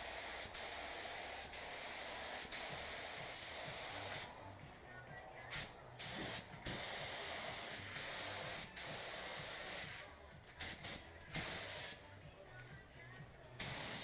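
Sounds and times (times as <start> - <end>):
paint spray gun hissing: 0.0 - 4.3, 5.5 - 12.1, 13.6 - 14.0.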